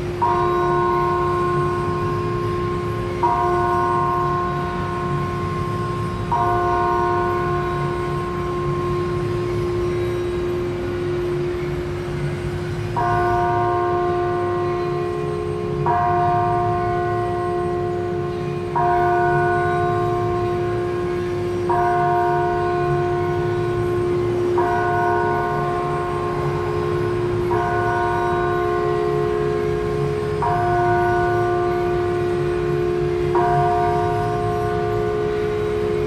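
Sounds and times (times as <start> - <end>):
bell chord strikes: 0.0 - 36.0
bell drone: 0.0 - 36.0.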